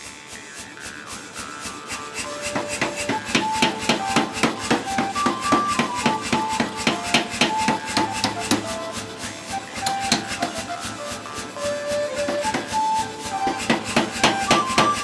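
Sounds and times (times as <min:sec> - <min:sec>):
power hammer pounding steel: 0:00.4 - 0:15.0
background music: 0:02.2 - 0:15.0.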